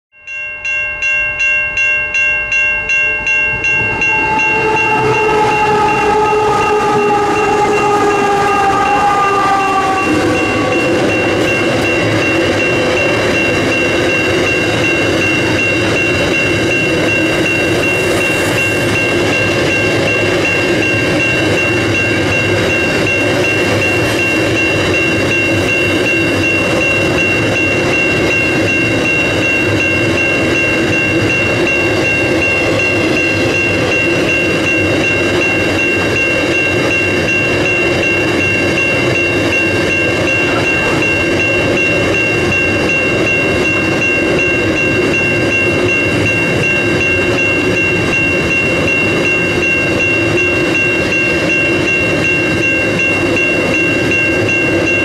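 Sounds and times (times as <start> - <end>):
level crossing bell ringing: 0.2 - 55.0
train locomotives passing: 1.0 - 55.0.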